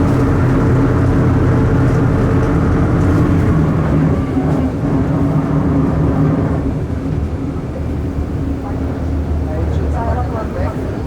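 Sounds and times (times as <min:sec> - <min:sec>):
diesel bus engine running: 0:00.0 - 0:09.6.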